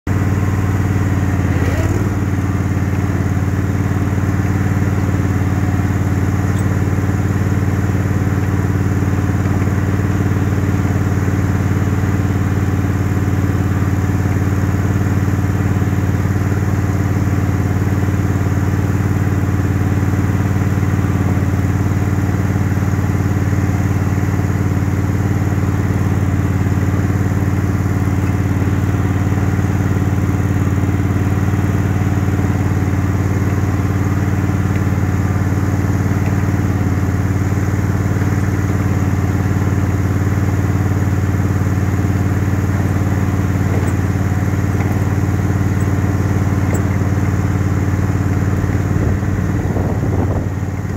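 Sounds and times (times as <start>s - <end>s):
garden tractor engine running: 0.1s - 50.9s.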